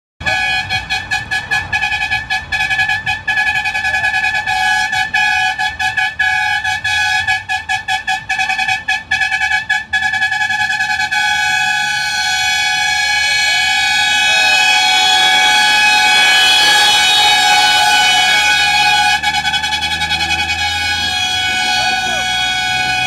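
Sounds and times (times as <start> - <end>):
truck horn tooting: 0.2 - 23.0.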